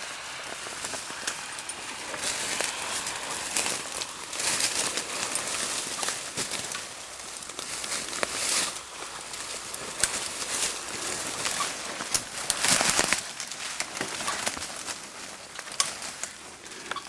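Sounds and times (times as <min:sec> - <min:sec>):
leafy branches swishing: 0:00.0 - 0:16.6
twigs snapping and crackling: 0:00.0 - 0:17.0.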